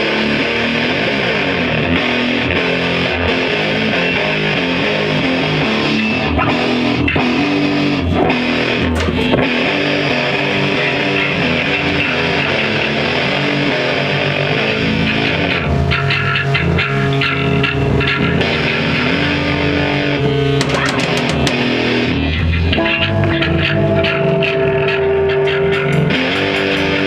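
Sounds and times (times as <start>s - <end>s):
bass guitar: 0.0s - 27.0s
electric guitar: 0.0s - 27.0s.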